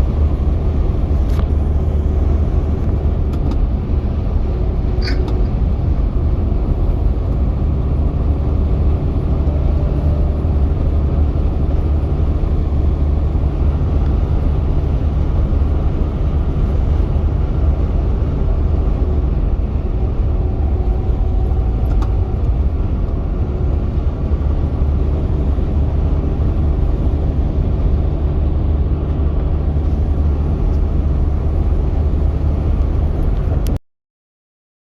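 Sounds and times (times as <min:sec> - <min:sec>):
truck engine and road rumble: 0:00.0 - 0:33.8.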